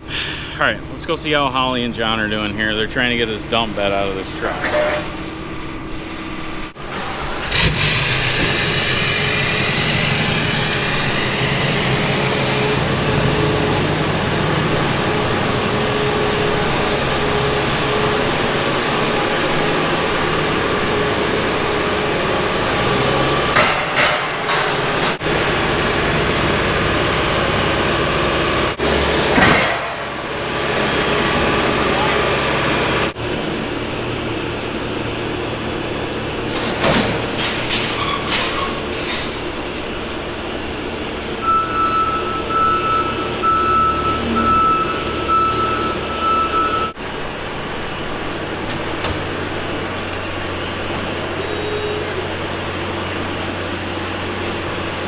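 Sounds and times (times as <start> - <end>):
engine starting and running: 0.0 - 55.0.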